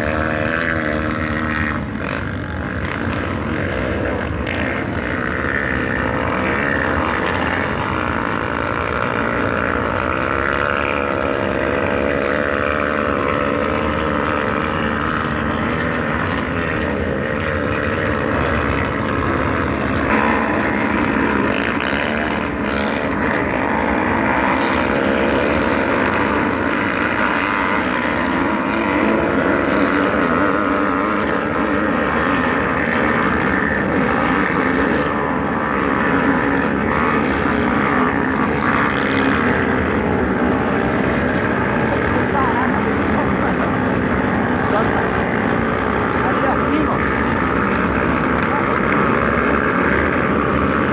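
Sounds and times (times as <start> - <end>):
dirt bikes revving: 0.0 - 50.9.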